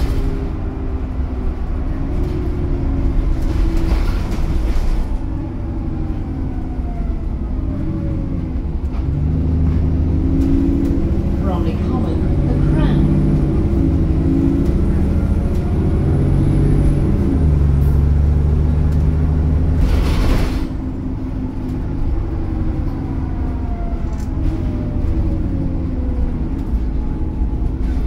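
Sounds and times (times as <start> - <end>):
bus engine pulling: 0.0 - 28.0.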